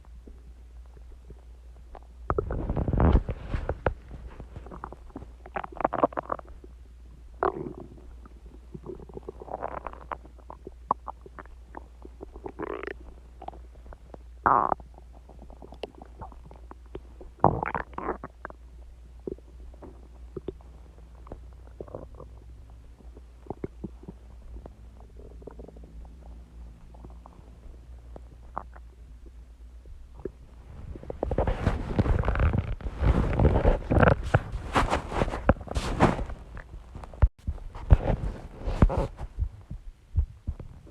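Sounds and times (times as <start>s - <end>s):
steady low hum: 0.0s - 40.9s
stomach growling: 0.0s - 40.9s.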